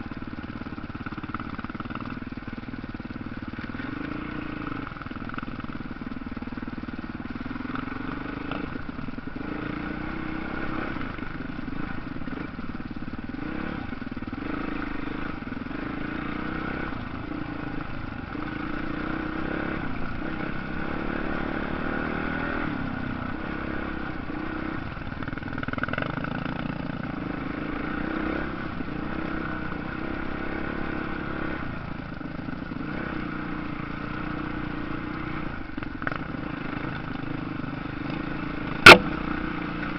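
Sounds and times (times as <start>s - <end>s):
motocross bike engines: 0.0s - 39.9s.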